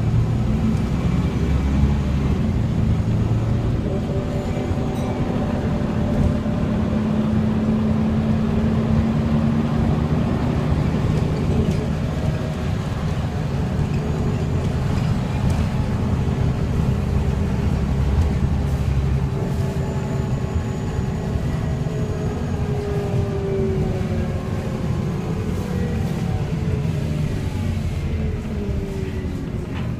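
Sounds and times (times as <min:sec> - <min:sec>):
bus diesel engine rumble: 0:00.0 - 0:29.9.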